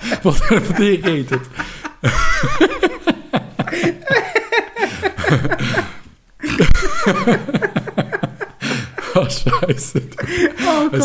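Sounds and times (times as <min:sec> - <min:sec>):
men laughing: 0:00.0 - 0:11.0.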